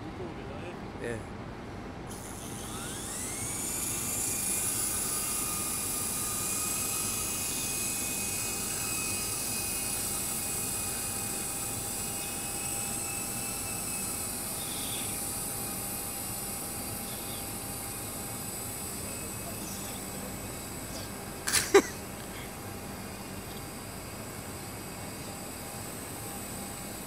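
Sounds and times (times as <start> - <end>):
model helicopter motor whine: 2.0 - 27.0.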